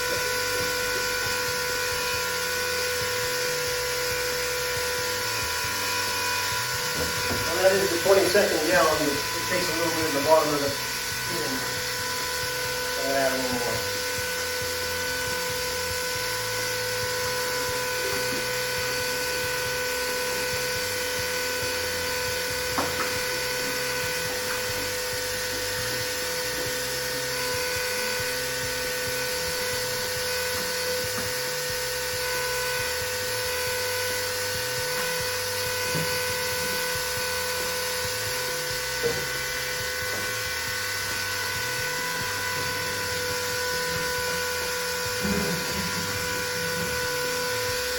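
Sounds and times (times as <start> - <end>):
electric pump motor whining: 0.0 - 47.9.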